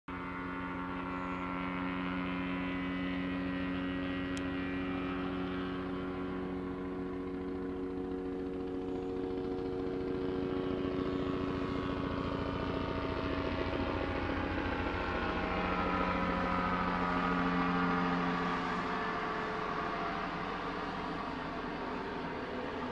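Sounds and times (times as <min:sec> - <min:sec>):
helicopter flying past: 0:00.1 - 0:22.9.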